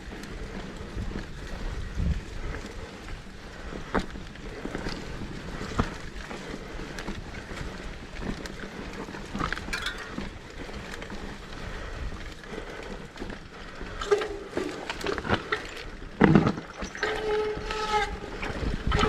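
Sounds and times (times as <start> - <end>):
bike clicks and rattles: 0.0 - 19.0
tyre and wind noise: 0.0 - 19.0.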